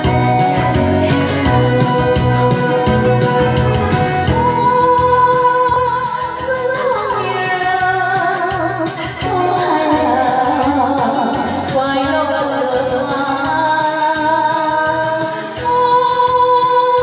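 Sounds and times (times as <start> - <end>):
band backing with steady beat: 0.0 - 17.0
woman singing: 0.0 - 17.0.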